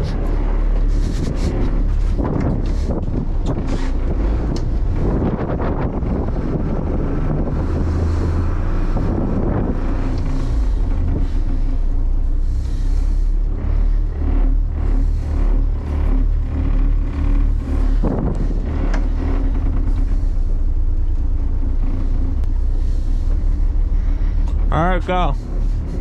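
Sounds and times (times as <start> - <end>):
boat diesel engines rumbling: 0.0 - 26.0.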